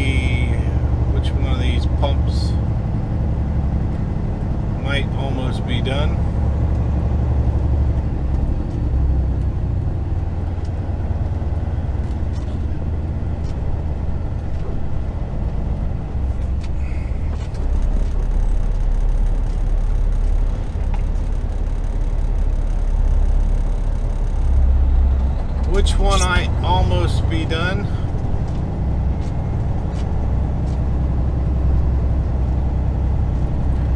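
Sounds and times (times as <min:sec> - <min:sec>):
truck diesel engine rumbling: 0:00.0 - 0:33.9.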